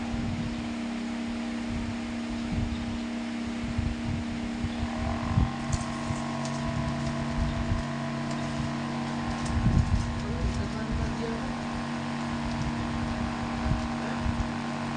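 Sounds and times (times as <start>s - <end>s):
fan motor humming: 0.0s - 14.9s
high-pitched motor whine: 0.0s - 14.9s
low uneven rumble: 1.6s - 14.9s.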